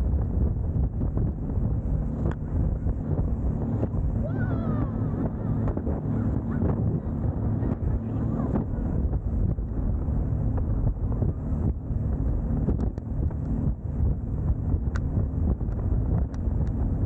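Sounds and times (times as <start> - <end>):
boat engine rumbling: 0.0 - 17.0
wind buffeting microphone: 0.0 - 17.0.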